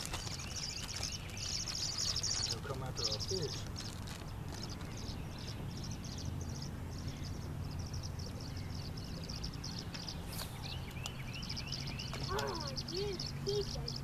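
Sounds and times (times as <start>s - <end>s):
rising bird calls: 0.0s - 14.0s.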